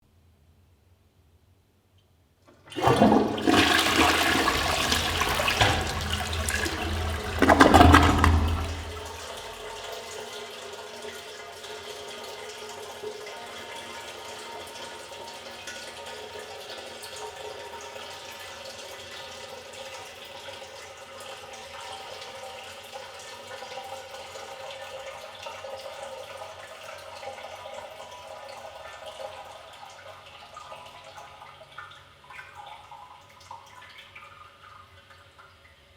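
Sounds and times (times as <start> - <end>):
toilet flushing: 2.5 - 35.9
toilet tank refilling: 2.5 - 35.9.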